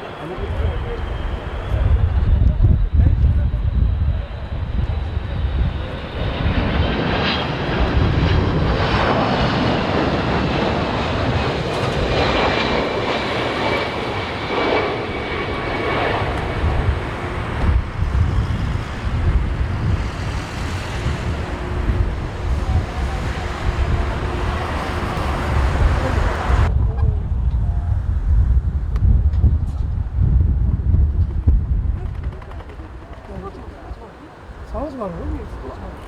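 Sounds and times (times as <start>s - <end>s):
gusty wind on microphone: 0.0s - 36.0s
jet airliner passing overhead: 0.0s - 36.0s.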